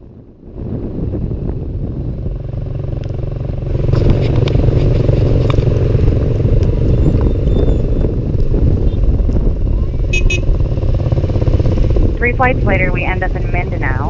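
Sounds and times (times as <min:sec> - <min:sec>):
motorcycle engine running: 0:00.1 - 0:14.0.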